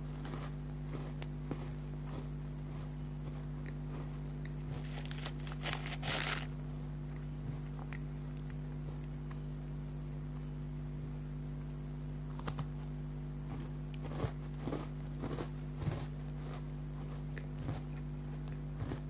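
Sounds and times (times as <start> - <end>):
crunching and chewing biscuits: 0.0 - 19.0
low electrical hum: 0.0 - 19.0.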